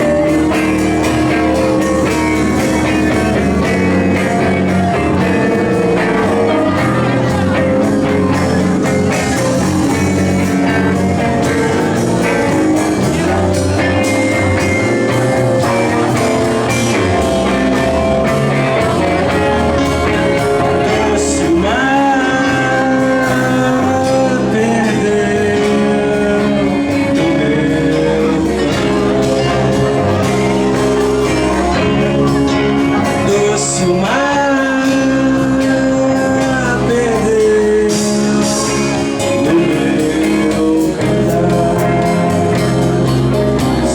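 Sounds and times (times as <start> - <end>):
guitar-led rock band music: 0.0 - 43.9.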